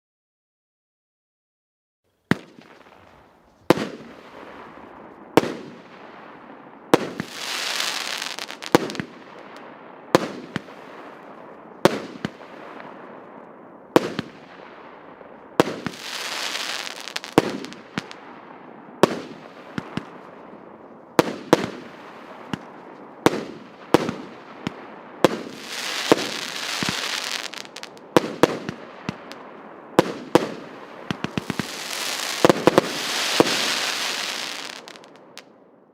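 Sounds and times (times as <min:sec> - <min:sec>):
firework crackling: 0:02.3 - 0:13.3, 0:14.0 - 0:35.5
firework bangs: 0:02.3 - 0:35.5.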